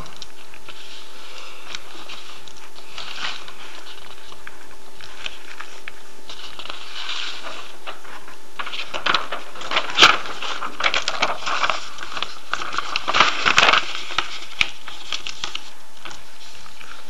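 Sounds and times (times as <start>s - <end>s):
faint hum: 0.0s - 17.0s
steady hiss: 0.0s - 17.0s.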